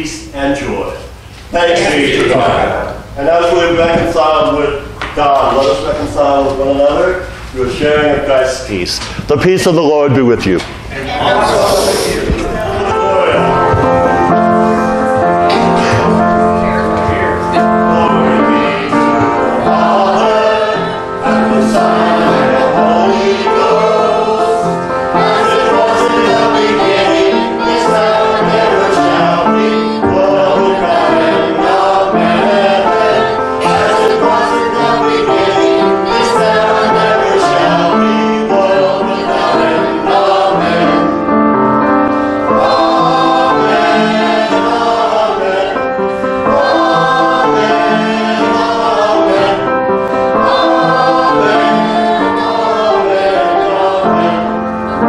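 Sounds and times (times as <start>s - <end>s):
congregation singing a hymn: 0.0s - 55.0s
piano accompaniment: 0.0s - 55.0s.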